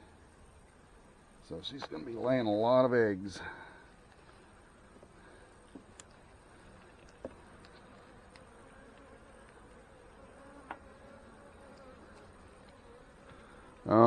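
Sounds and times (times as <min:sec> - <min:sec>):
bees humming: 0:00.0 - 0:14.0.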